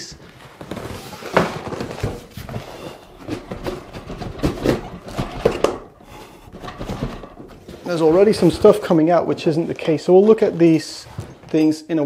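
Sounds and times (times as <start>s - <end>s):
cardboard scraping and rustling: 0.2s - 11.5s.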